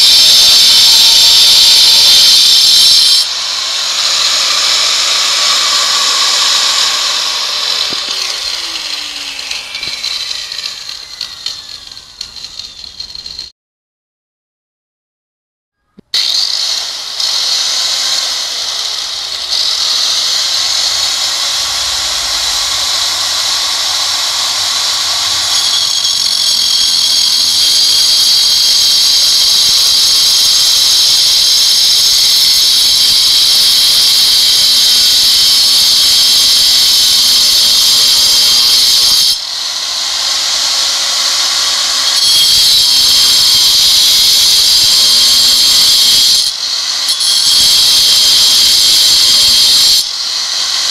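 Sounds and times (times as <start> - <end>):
angle grinder cutting stone: 0.0 - 13.5, 16.0 - 50.9.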